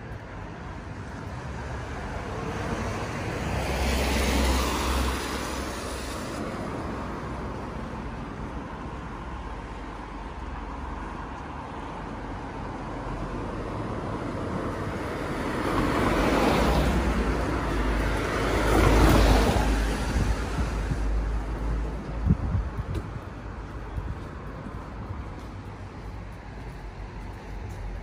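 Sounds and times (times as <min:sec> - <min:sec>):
cars passing close by: 0:00.0 - 0:28.0.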